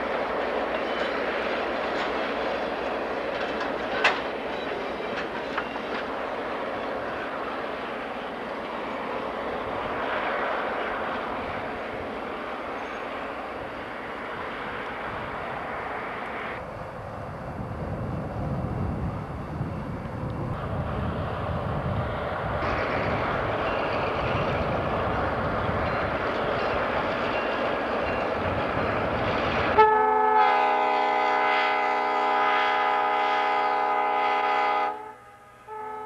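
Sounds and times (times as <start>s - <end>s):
diesel train passing: 0.0s - 36.0s.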